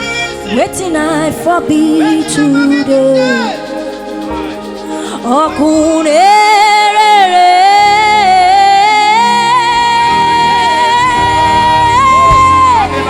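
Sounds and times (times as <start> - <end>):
gospel backing music: 0.0 - 13.0
person singing long high note: 0.0 - 13.0.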